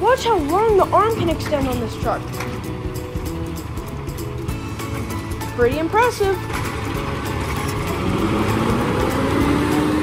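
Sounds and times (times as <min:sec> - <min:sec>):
truck diesel engine pulling away: 0:00.0 - 0:10.0.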